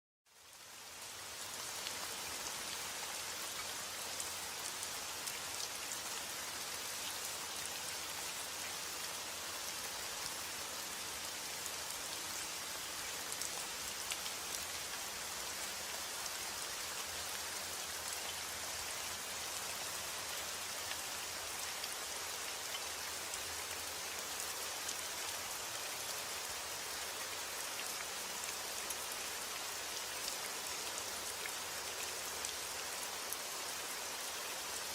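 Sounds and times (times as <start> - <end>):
steady rain falling: 0.3 - 34.9.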